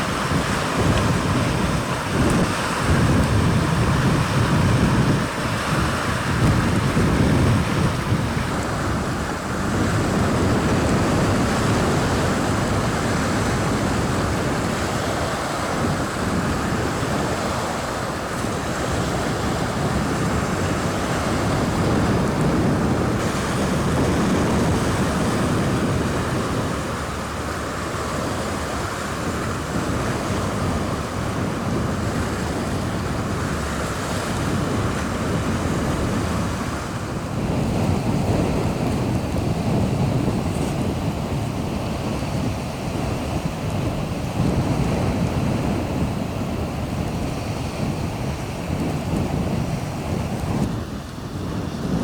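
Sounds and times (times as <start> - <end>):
small waves washing on shore: 0.0 - 52.0
wind buffeting microphone: 0.0 - 52.0.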